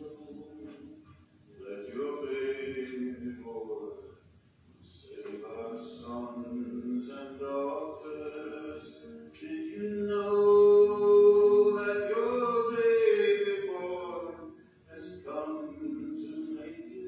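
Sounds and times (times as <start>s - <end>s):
man singing into microphone: 0.0s - 4.2s, 4.8s - 17.0s.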